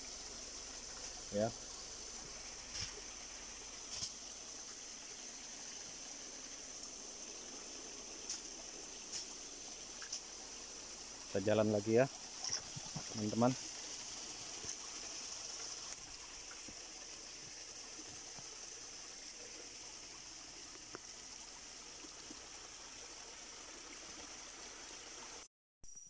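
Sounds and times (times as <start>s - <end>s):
high-pitched insect drone: 0.0s - 21.3s
even hiss: 0.0s - 25.4s.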